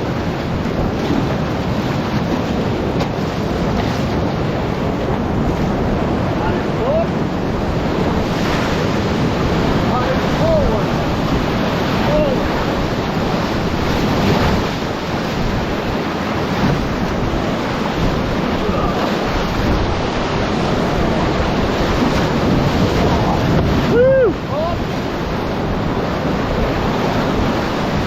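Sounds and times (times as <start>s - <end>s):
whitewater rapids rushing: 0.0s - 28.0s
wind buffeting microphone: 0.0s - 28.0s.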